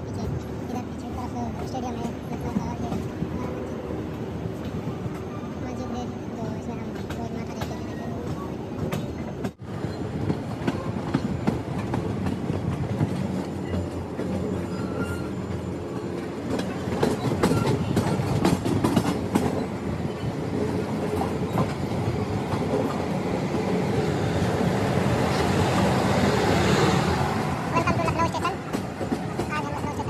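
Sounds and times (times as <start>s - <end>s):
rail joint clicks and clacks: 0.0s - 30.0s
train wheels rumbling: 0.0s - 30.0s.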